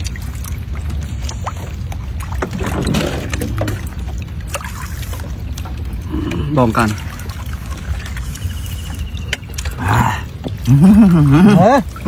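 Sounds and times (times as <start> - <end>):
lake water sloshing and lapping: 0.0 - 12.0
steady low rumble: 0.0 - 12.0.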